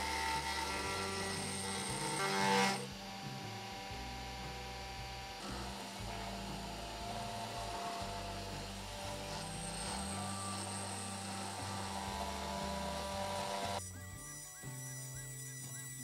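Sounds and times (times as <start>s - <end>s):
background music: 0.0s - 16.0s
router spindle whine: 0.0s - 16.0s.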